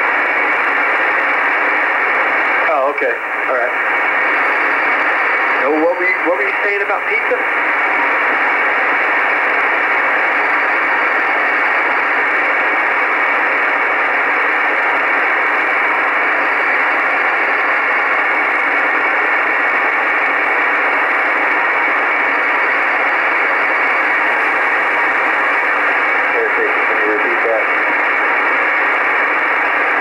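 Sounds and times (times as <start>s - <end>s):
shortwave radio static hiss: 0.0s - 30.0s.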